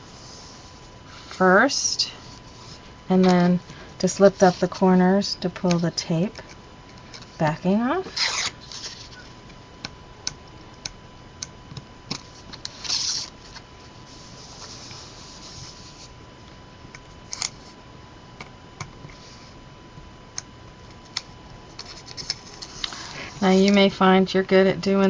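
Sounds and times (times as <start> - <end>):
faint high hum: 0.0 - 25.0.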